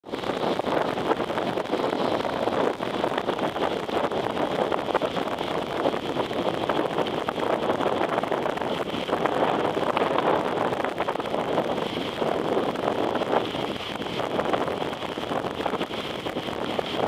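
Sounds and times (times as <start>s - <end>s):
sea waves washing: 0.0s - 17.0s
wind on microphone: 0.0s - 17.0s.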